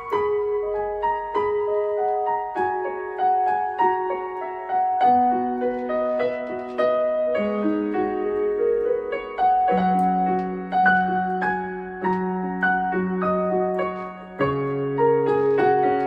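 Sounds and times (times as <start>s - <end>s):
synthesizer piano chords: 0.0s - 16.0s.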